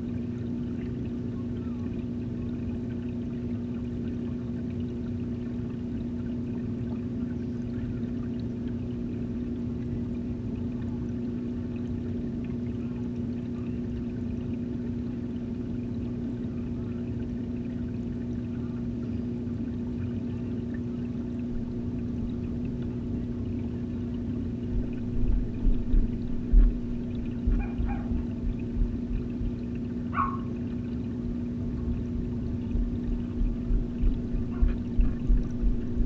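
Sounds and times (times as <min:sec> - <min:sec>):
filter pump low hum: 0:00.0 - 0:36.0
rushing water: 0:00.0 - 0:36.0.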